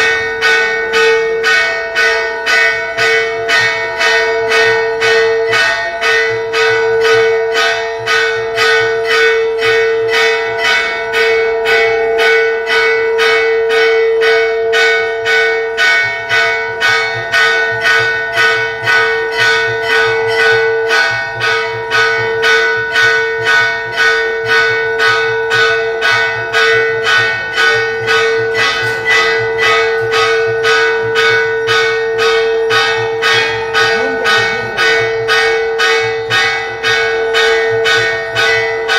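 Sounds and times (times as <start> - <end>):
bell ringing rhythmically: 0.0 - 38.9.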